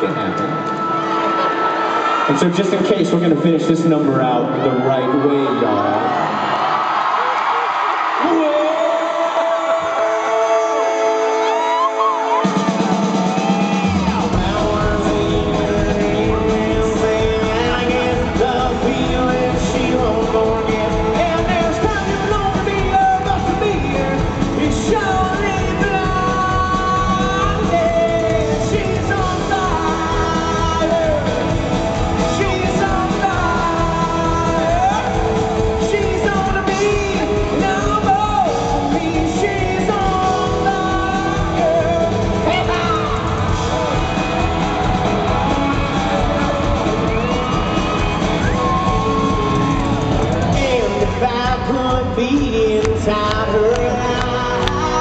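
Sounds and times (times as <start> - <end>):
rock band playing country music: 0.0 - 55.0
man singing: 8.4 - 12.6, 13.8 - 49.6, 50.4 - 55.0
guitars: 9.6 - 55.0.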